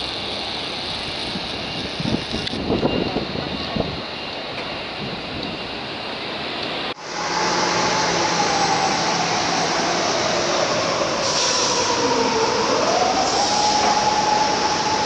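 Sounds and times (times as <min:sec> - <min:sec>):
train rushing rail noise: 0:00.0 - 0:15.0
train whine: 0:00.0 - 0:15.0.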